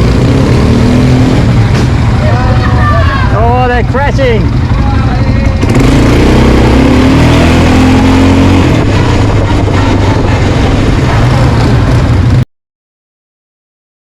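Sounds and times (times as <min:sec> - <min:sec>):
quad bike engine accelerating: 0:00.0 - 0:12.4.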